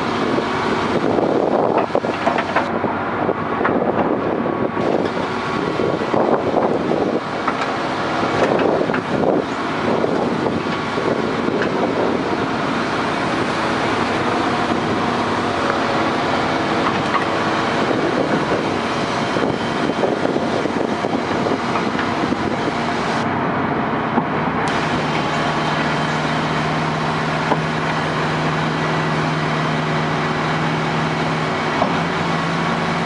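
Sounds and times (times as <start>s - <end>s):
diesel engines running under load: 0.0s - 33.0s.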